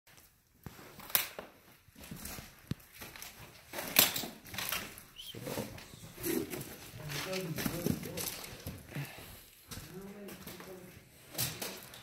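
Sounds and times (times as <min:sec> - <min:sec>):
footsteps crunching through debris: 0:00.2 - 0:11.0.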